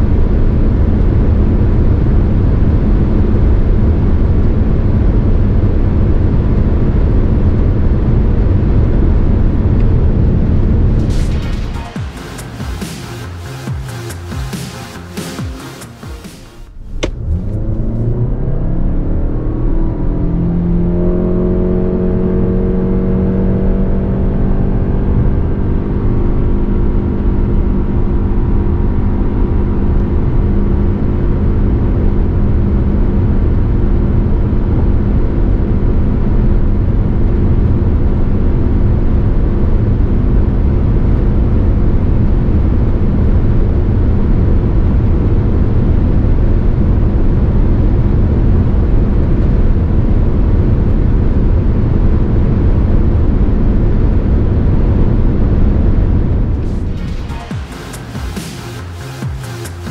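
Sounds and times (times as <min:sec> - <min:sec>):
road and wind noise: 0:00.0 - 0:11.7, 0:16.5 - 0:57.3
car engine accelerating: 0:00.1 - 0:31.2, 0:42.2 - 0:59.9.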